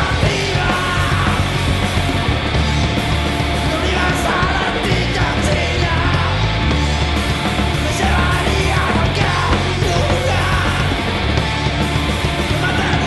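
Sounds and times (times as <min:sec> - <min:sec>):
live rock band playing loud: 0:00.0 - 0:13.0.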